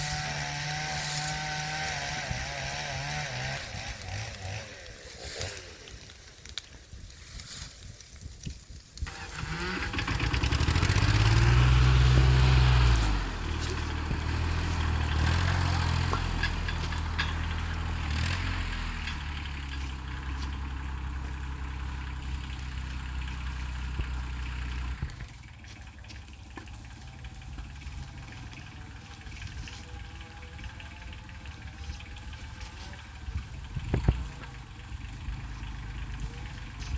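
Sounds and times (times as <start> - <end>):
tractor engine running: 0.0 - 7.3, 7.9 - 36.9.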